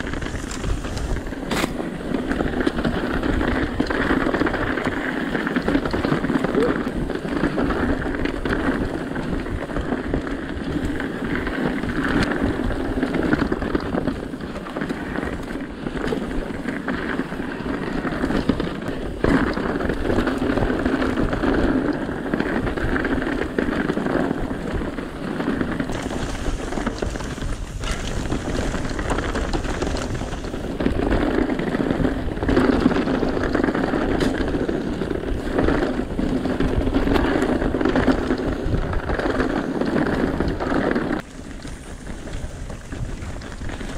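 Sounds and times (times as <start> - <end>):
bike rattling over bumps: 0.0 - 43.9
bike tyres on dirt and stones: 0.0 - 43.9.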